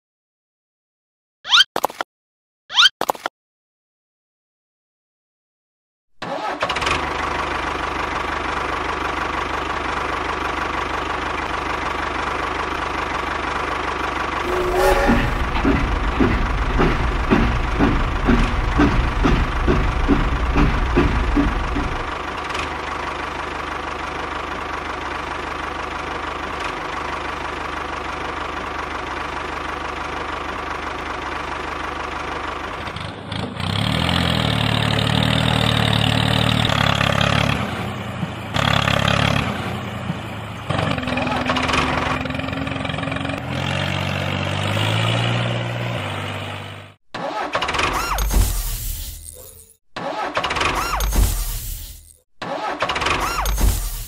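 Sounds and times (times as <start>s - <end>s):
tractor engine chugging and revving: 6.2s - 48.5s, 49.9s - 54.0s.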